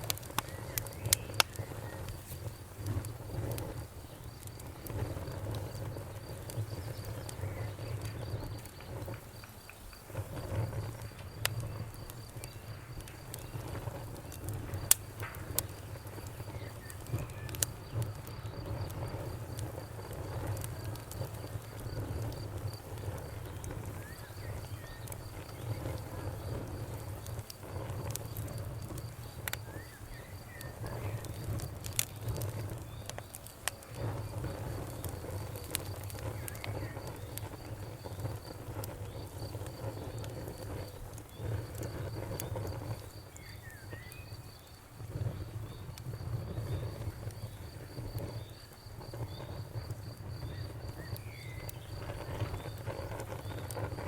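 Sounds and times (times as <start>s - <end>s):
campfire crackling and popping: 0.0s - 54.0s
faint insect trill: 0.0s - 54.0s.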